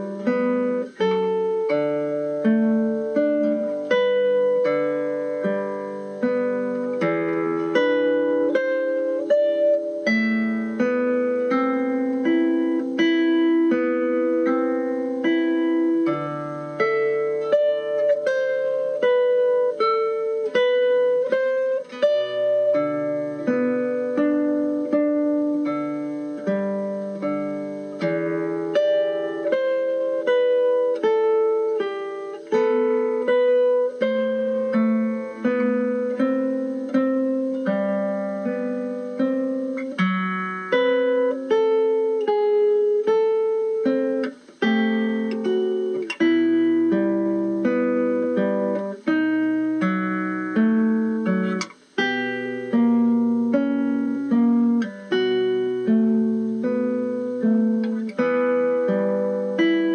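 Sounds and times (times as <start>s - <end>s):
plucked guitar melody: 0.0s - 59.9s.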